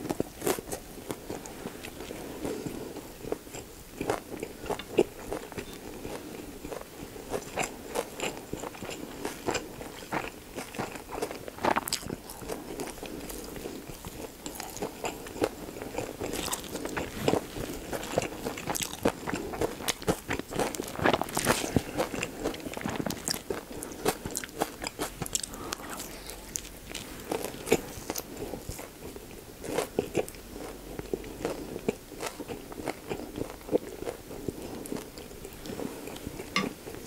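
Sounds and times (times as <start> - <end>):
close chewing with wet mouth sounds: 0.0 - 37.0.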